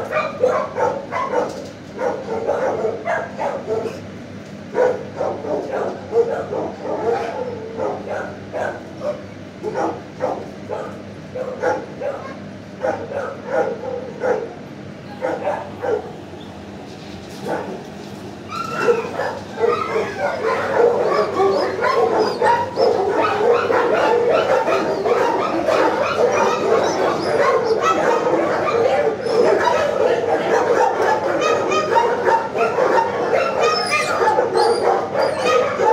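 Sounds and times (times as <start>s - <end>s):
dogs barking and yipping: 0.0s - 16.3s, 17.4s - 35.9s.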